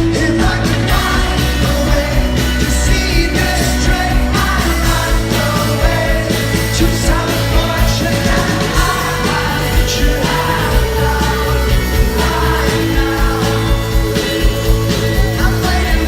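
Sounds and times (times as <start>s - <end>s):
person singing lead vocal: 0.0s - 16.0s
rock band playing live: 0.0s - 16.0s.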